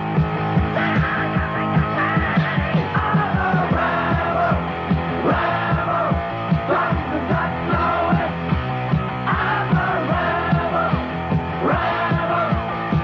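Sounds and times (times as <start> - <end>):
punk rock song with singing: 0.0 - 13.0.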